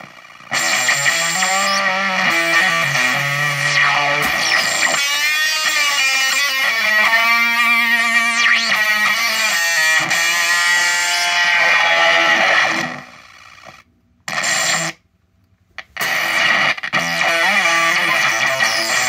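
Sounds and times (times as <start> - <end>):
fuzz electric guitar: 0.0 - 15.0, 15.8 - 19.0.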